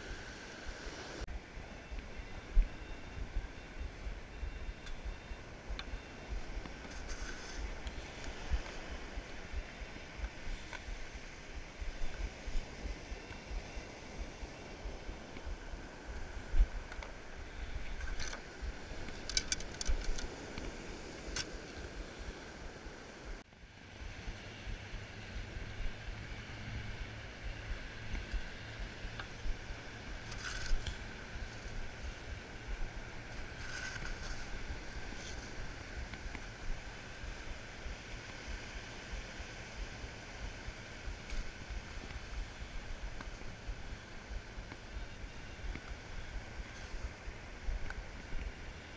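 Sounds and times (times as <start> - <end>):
faint steady high tone: 0.0 - 48.9.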